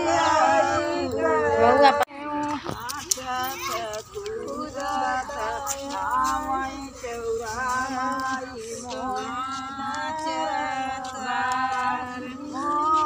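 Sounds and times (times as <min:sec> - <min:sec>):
voices singing slow song: 0:00.0 - 0:13.0.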